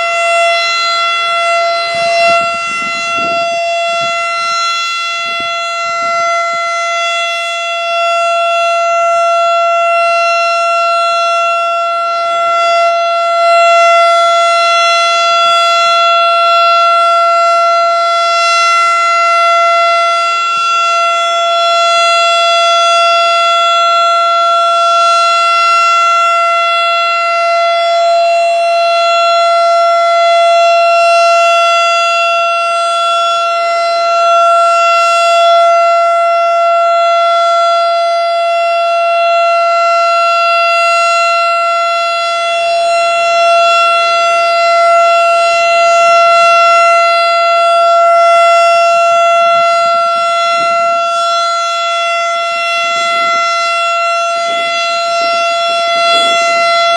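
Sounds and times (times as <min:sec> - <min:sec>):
steady siren tone: 0:00.0 - 0:56.9.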